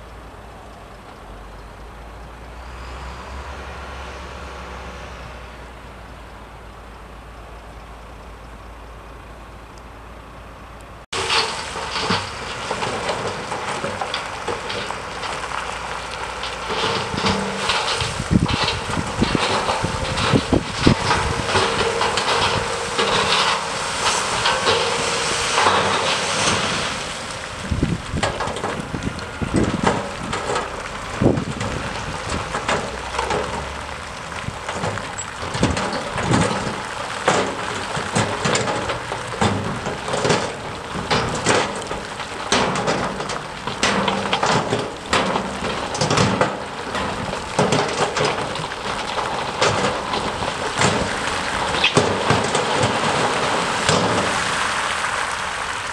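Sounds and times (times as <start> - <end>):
diesel engine running: 0.0 - 55.9
earth and stones tumbling: 11.1 - 55.9.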